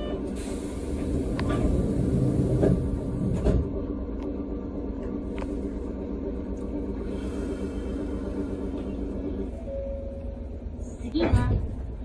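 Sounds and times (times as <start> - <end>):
tram low hum: 0.0 - 12.0.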